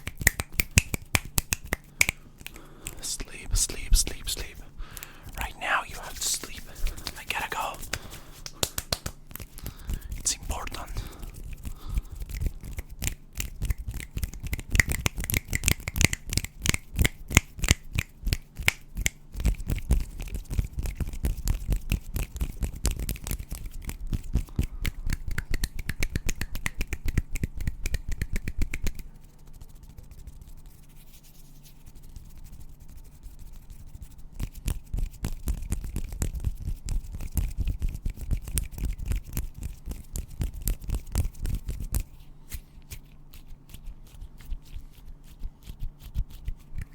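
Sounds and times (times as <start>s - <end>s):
hands rubbing and tapping: 0.0s - 46.9s.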